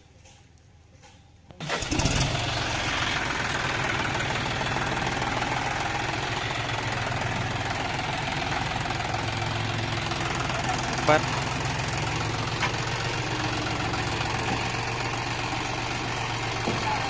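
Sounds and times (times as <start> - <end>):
diesel tractor engine idling: 1.6 - 17.0.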